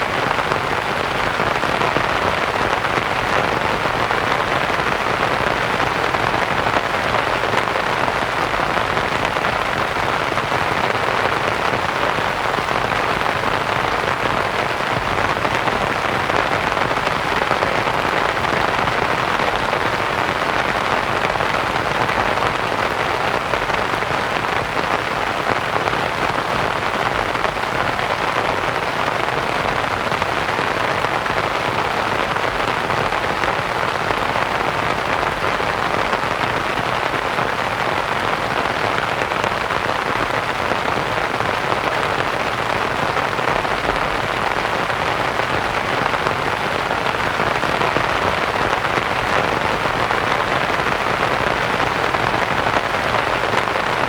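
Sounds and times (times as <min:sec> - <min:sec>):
rain pattering on canvas tent: 0:00.0 - 0:54.0.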